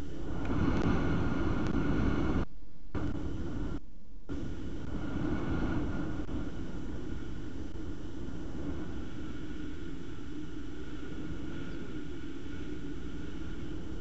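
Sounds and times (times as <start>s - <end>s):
low thunder rumble: 0.0s - 14.0s
rain hiss: 0.0s - 14.0s.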